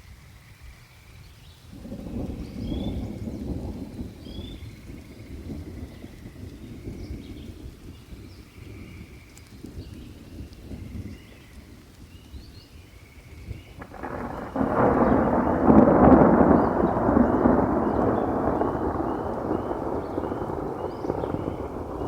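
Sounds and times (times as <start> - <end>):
rain: 0.0 - 22.0
thunder rumbling: 1.8 - 22.0.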